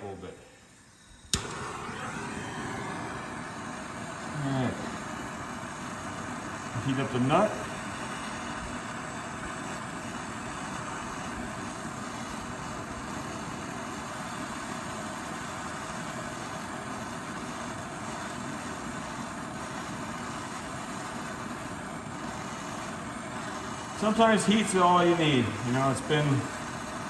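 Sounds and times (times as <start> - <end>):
gas torch flame hissing: 0.0 - 27.0.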